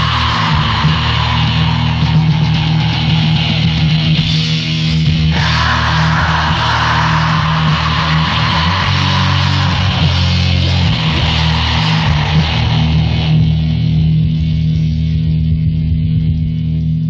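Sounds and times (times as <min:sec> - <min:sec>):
heavy metal band playing: 0:00.0 - 0:16.9
low guitar and bass notes ringing: 0:00.0 - 0:17.0.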